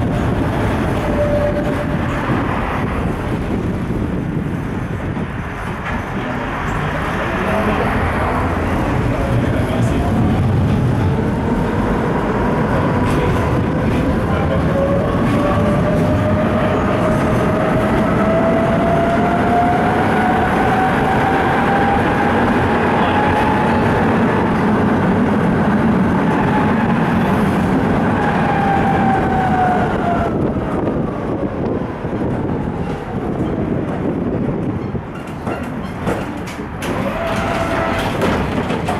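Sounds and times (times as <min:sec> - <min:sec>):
tram rumble: 0:00.0 - 0:38.9.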